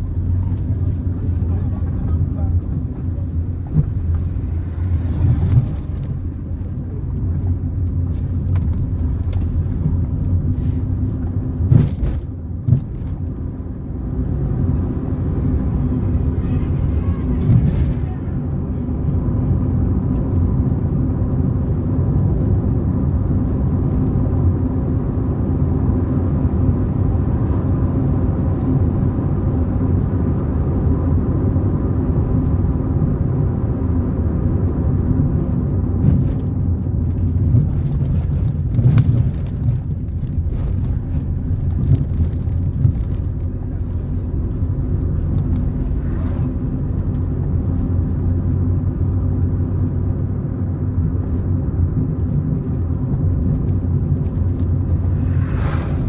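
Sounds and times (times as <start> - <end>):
car engine hum: 0.0 - 56.0
road rumble: 0.0 - 56.0.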